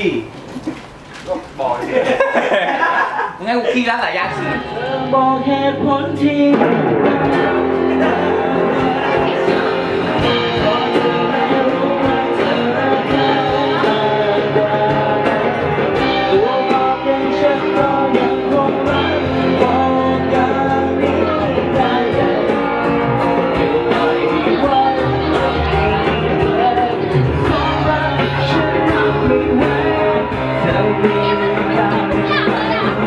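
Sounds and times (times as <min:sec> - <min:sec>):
rock band playing: 0:04.2 - 0:33.0
person singing into a microphone: 0:04.6 - 0:33.0.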